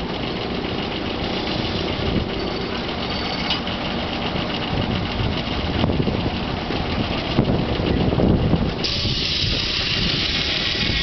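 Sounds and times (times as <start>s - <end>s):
steam engine running: 0.0s - 11.0s.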